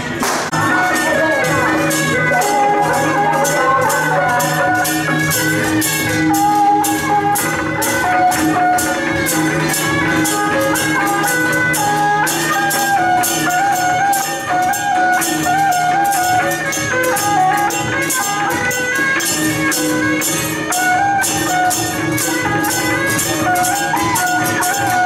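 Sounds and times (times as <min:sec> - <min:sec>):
cymbals struck: 0:00.0 - 0:25.0.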